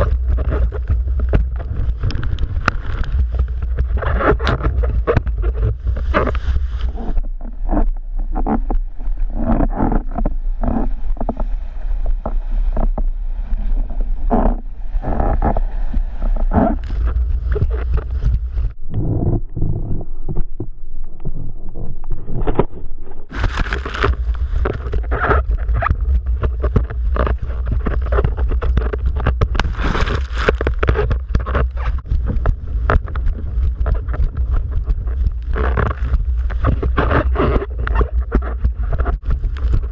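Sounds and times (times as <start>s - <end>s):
wind buffeting microphone: 0.0s - 7.4s, 11.5s - 20.8s, 21.4s - 39.9s
choppy water splashing: 0.0s - 18.8s, 23.3s - 39.9s.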